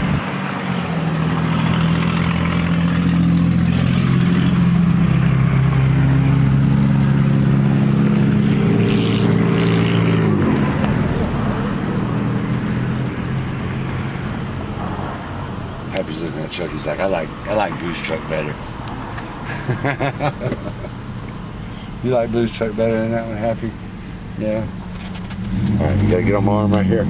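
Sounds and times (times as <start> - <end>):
pickup truck engine revving: 0.0 - 21.2, 25.2 - 27.0.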